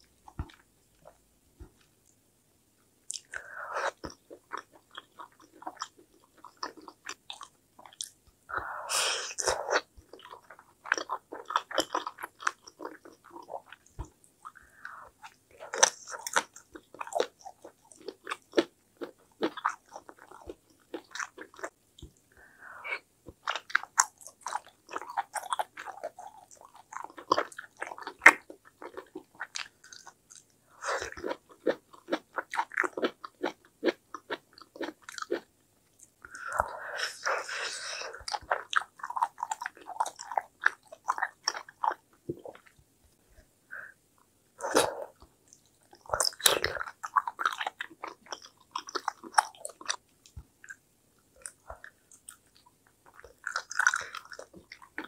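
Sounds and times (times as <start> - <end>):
person chewing with wet smacking: 0.1 - 2.0, 3.1 - 8.2, 9.4 - 22.3, 23.2 - 42.8, 44.6 - 50.8, 51.4 - 55.0.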